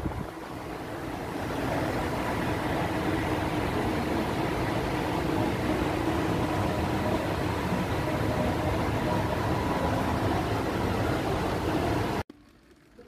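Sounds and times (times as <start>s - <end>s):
faint steady hum: 0.0s - 13.0s
ventilation hiss and rumble: 0.0s - 13.0s.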